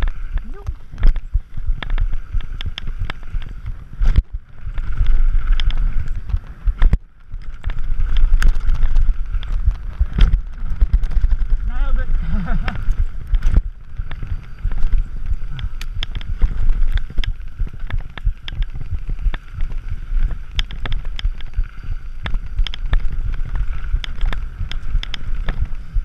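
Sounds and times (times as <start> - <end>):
bike clacking and rattling: 0.0 - 26.0
wind and tyres rumbling: 0.0 - 26.0.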